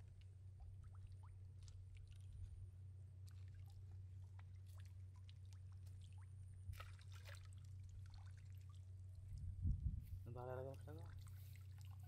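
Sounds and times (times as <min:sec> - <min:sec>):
steady low hum: 0:00.0 - 0:12.0
water splashing and trickling: 0:00.0 - 0:12.0.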